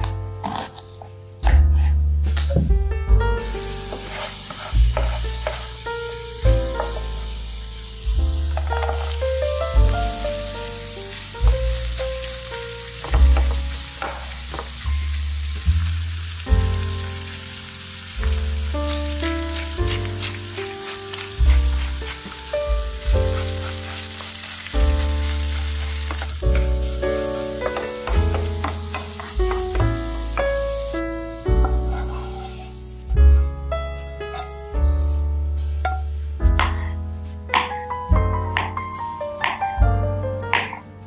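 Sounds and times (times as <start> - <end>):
food sizzling in a frying pan: 3.4 - 33.2, 33.8 - 39.9.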